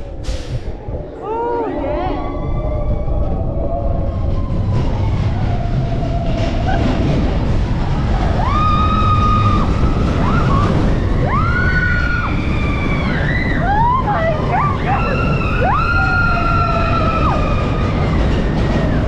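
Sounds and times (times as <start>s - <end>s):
roller coaster rumble on track: 0.0s - 19.0s.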